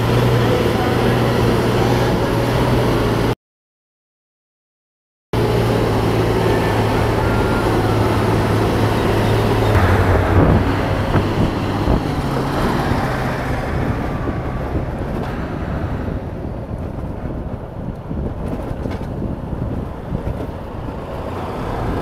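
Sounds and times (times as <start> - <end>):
wind and road noise: 0.0 - 3.4, 5.4 - 22.0.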